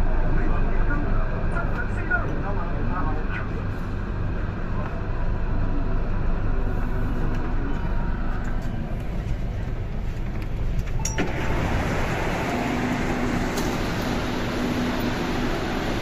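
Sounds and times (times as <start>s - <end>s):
train mechanical background noise: 0.0s - 16.0s.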